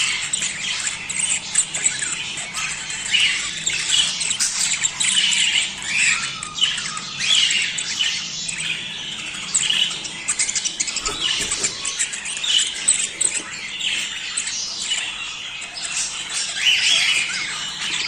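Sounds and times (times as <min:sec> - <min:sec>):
budgerigars chattering: 0:00.0 - 0:18.0.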